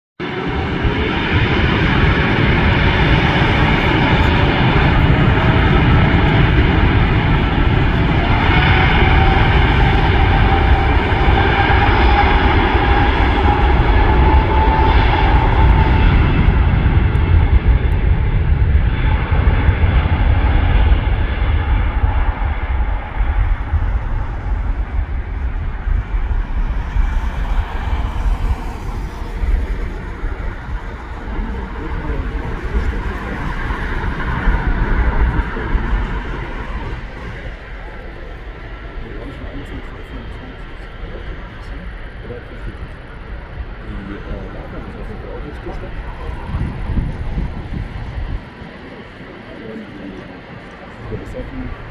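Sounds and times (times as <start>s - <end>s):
jet engines roaring: 0.2s - 51.9s.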